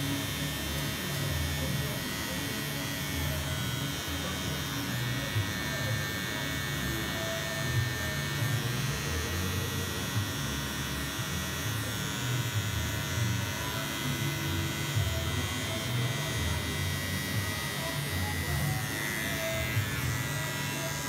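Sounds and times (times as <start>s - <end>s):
electric hair clippers running: 0.0s - 21.0s.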